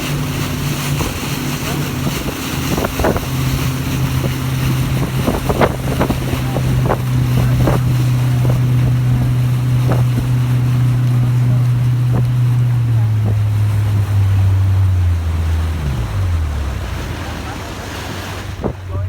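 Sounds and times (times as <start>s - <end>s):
wind on microphone: 0.0s - 17.4s, 18.1s - 19.0s
boat motor running: 0.0s - 19.0s
short sharp knocks or splashes: 0.0s - 19.0s.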